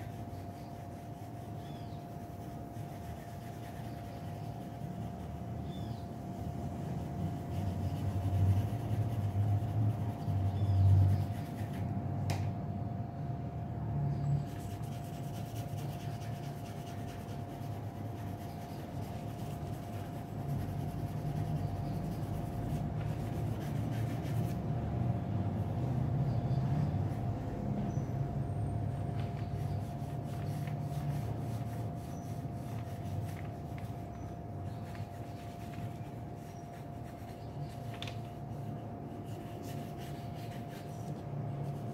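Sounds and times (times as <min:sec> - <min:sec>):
pencil scratching on paper: 0:00.0 - 0:11.9, 0:14.5 - 0:24.6, 0:29.2 - 0:41.9.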